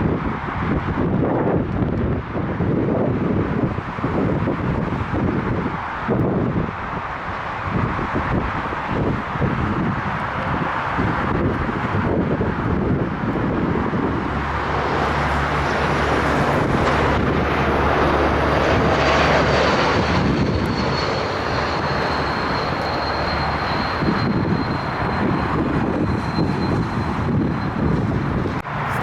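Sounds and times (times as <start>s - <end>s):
high jet whine: 0.0s - 29.0s
jet engine roar: 0.0s - 29.0s.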